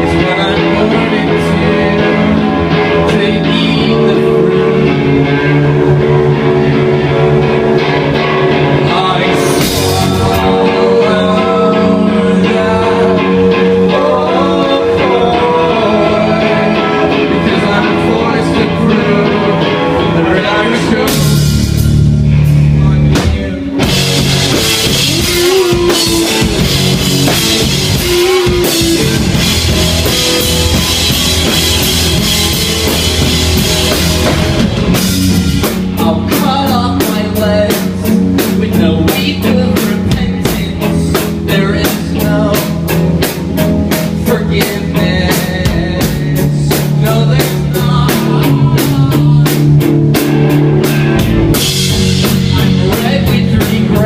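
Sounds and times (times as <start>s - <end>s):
drums driving beat: 0.0s - 54.0s
rock band playing: 0.0s - 54.0s.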